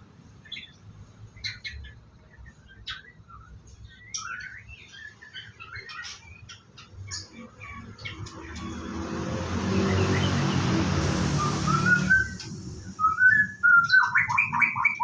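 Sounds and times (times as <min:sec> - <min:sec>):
bird chirps: 0:00.4 - 0:15.0.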